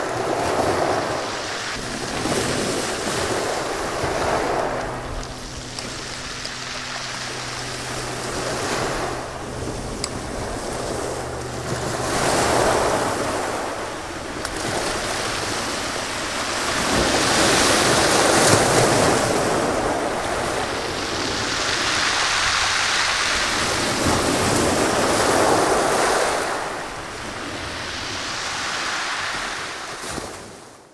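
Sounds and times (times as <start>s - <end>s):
sea surf washing onto beach: 0.0s - 30.6s.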